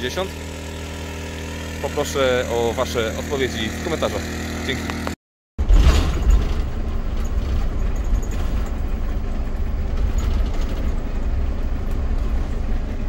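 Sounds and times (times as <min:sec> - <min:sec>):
motorhome engine and road rumble: 0:00.0 - 0:13.0.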